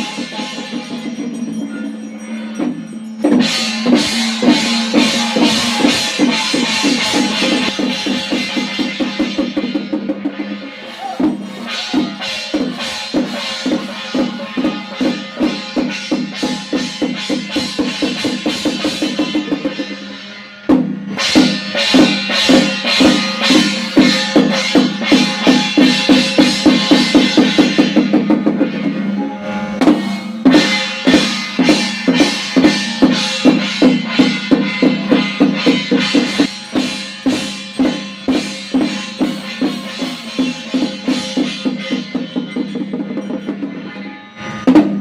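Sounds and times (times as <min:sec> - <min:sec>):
drums and percussion beating fast: 0:00.0 - 0:45.0.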